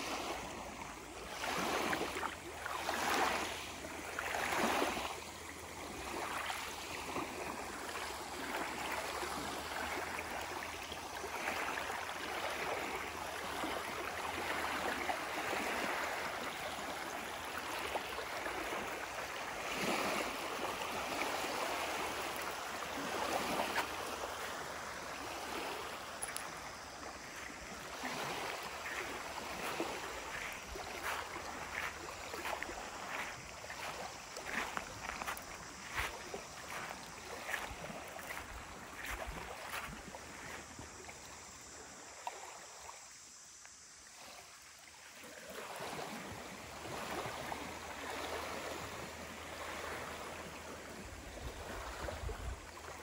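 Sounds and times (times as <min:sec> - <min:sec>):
waves lapping on gravel shore: 0:00.0 - 0:42.6, 0:45.2 - 0:53.0.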